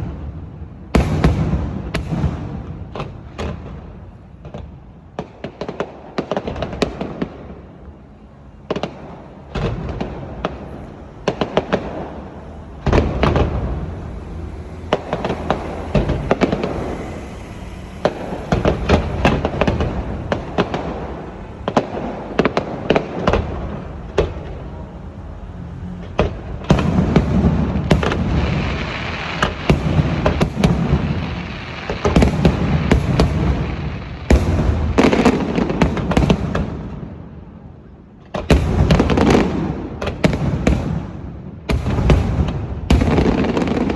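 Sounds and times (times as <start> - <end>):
fireworks bangs: 0.0 - 25.2, 26.0 - 43.9.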